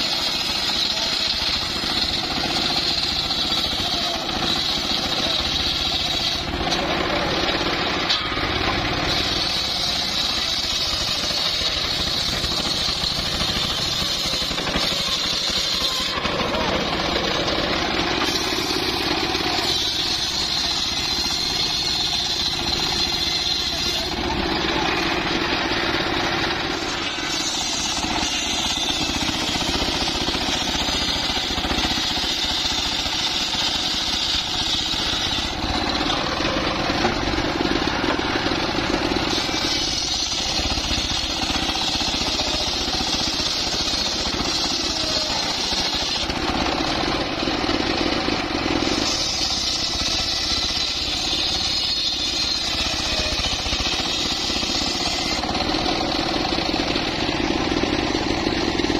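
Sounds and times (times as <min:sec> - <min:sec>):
circular saw cutting wood: 0:00.0 - 0:58.9
engine running steadily: 0:00.0 - 0:58.9.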